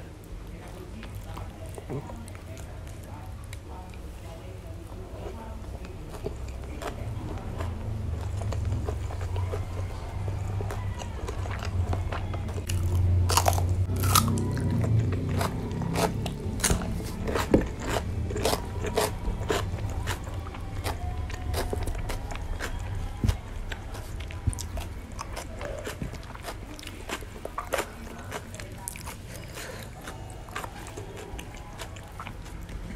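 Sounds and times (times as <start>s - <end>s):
person chewing crunchy food: 5.1s - 32.9s.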